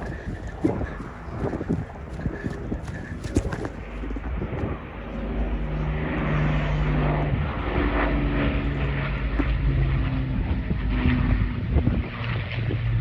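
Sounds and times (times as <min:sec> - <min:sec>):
propeller aircraft engine droning: 0:00.0 - 0:13.0
wind rumble on microphone: 0:00.0 - 0:13.0.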